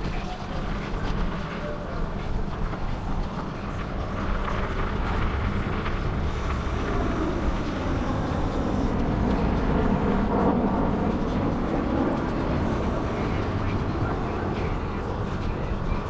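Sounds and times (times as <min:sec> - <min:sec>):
bicycle road noise: 0:00.0 - 0:16.0
wind buffeting microphone: 0:00.0 - 0:16.0
wind rush: 0:00.0 - 0:16.0.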